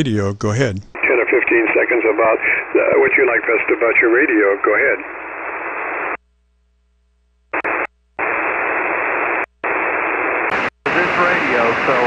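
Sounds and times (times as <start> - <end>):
radio static hiss: 0.0 - 6.2, 7.5 - 12.0.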